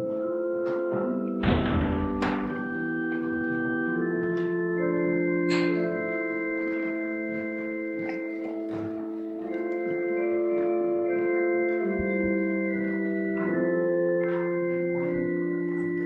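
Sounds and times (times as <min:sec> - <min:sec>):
church organ playing chords: 0:00.0 - 0:16.0.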